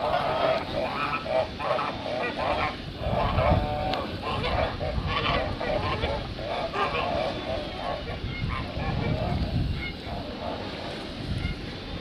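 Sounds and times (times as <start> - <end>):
geese honking: 0.0 - 11.7.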